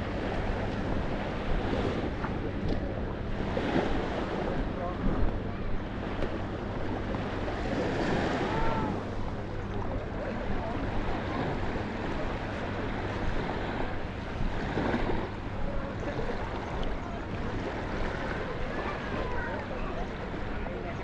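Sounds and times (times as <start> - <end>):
faint distant voices: 0.0 - 21.0
sea waves washing onto beach: 0.0 - 21.0
wind buffeting microphone: 0.0 - 21.0.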